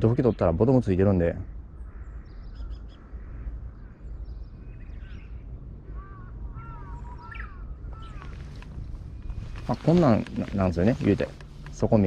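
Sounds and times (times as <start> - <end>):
birds chirping: 0.0 - 12.0
low steady rumble: 0.0 - 12.0.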